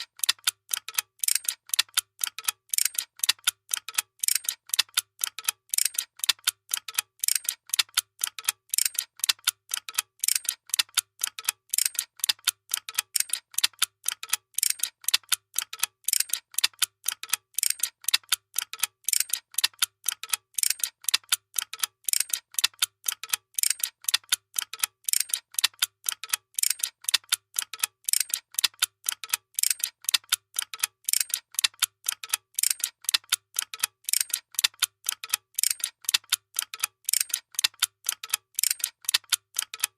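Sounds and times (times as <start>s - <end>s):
machine clicking rhythmically: 0.0s - 39.9s.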